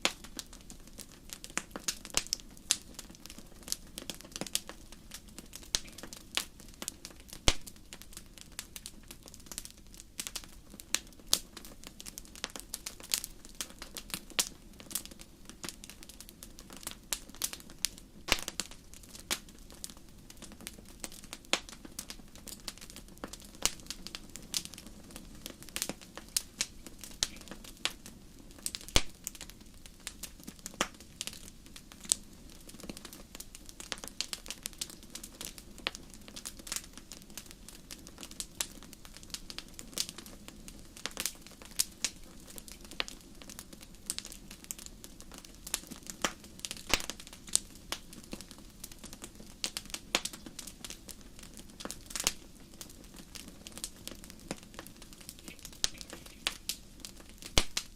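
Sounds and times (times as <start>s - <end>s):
low rumble of burning: 0.0s - 57.9s
wood fire popping and snapping: 0.0s - 57.9s.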